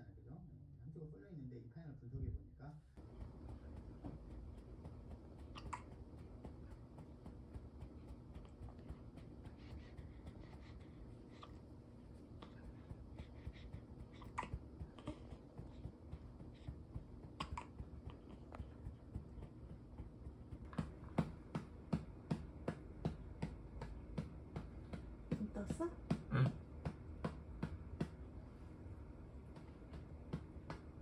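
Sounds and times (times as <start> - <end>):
hand patting baby: 3.0 - 28.5, 29.4 - 31.0.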